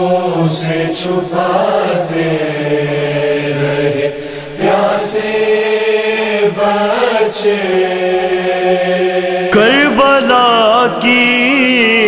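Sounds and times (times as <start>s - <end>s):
men chanting a vocal drone: 0.0s - 12.0s.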